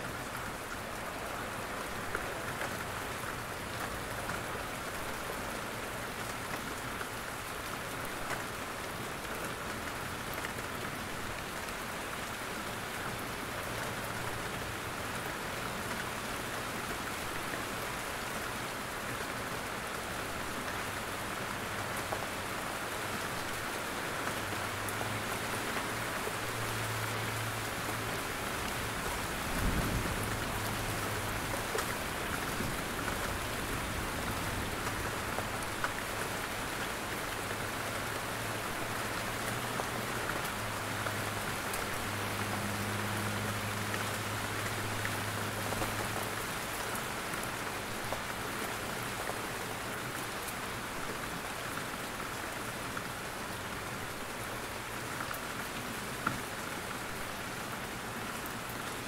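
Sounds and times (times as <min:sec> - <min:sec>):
rain pattering from trees: 0:00.0 - 0:59.0.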